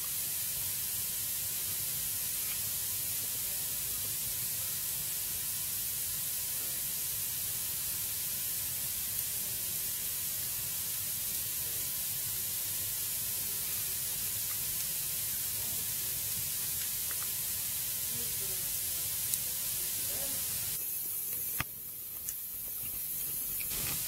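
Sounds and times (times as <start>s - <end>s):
faint fire crackle: 0.0s - 24.0s
fireplace fire hissing: 0.0s - 24.0s.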